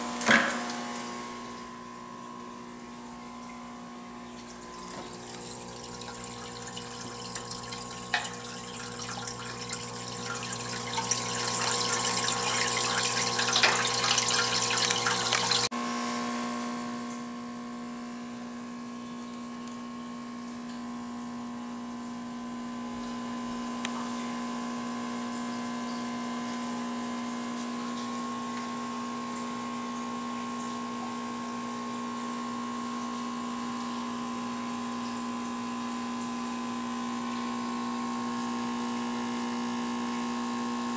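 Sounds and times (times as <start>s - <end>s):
aquarium pump humming: 0.0s - 40.9s.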